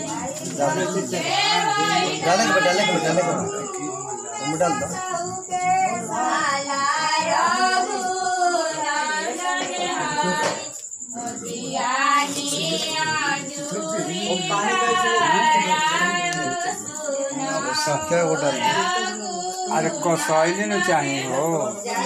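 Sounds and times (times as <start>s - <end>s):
women singing together: 0.0s - 22.0s.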